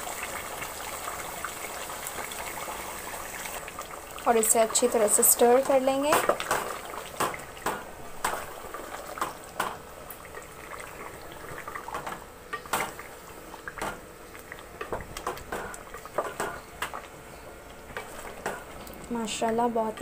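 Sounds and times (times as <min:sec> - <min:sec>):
curry bubbling: 0:00.0 - 0:20.0.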